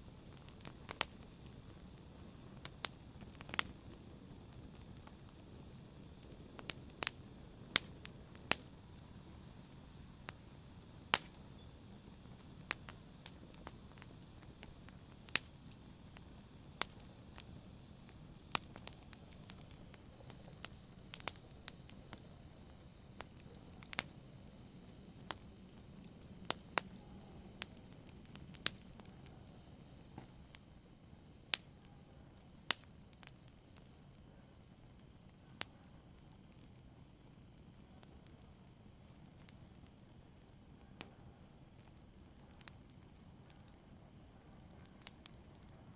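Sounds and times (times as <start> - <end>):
logs crackling in a fireplace: 0.0 - 45.9.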